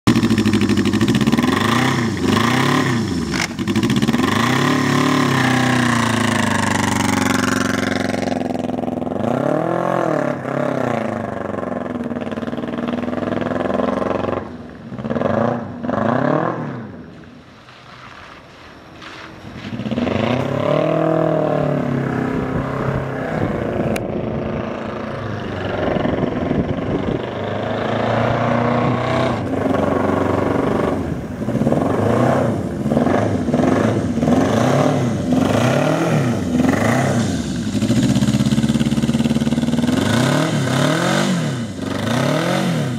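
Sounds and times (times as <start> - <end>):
motorcycle engine revving: 0.1 - 17.0, 19.6 - 42.9
motorcycle pulling away through gears: 0.1 - 42.9.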